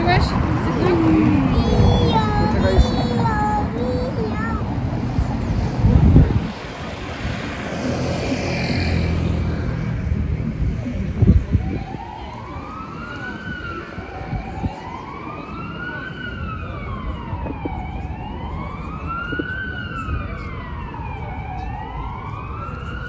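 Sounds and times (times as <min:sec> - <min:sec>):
emergency siren wailing: 0:00.0 - 0:09.6, 0:11.0 - 0:23.0
street traffic rumble: 0:00.0 - 0:23.0.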